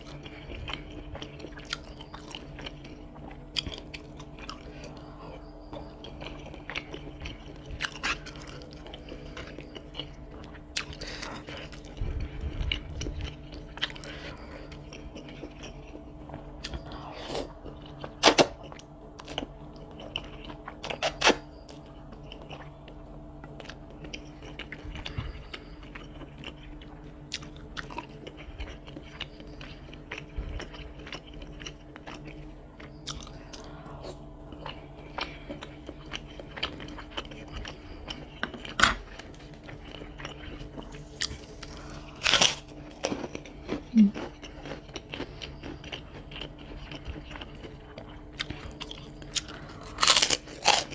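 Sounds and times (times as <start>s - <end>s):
chewing noodles: 0.0s - 50.9s.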